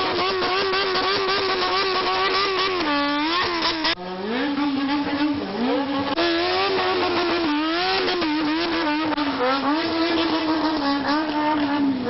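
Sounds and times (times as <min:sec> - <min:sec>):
engines revving: 0:00.0 - 0:12.0.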